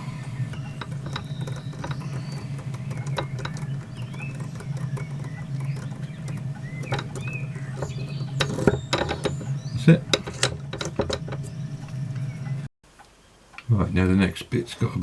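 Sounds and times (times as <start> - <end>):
small lathe humming: 0.0 - 12.7.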